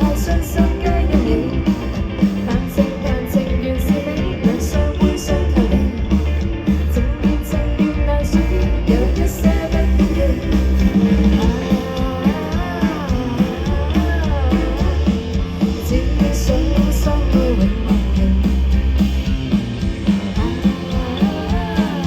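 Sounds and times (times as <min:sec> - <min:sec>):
rock band instrumental: 0:00.0 - 0:22.0.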